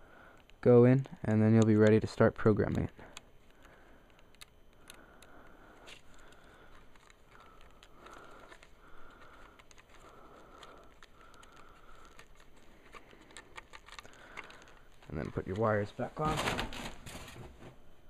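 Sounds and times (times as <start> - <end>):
fingers rustling wires: 0.0 - 17.8
faint clicks of handling small parts: 0.3 - 15.9.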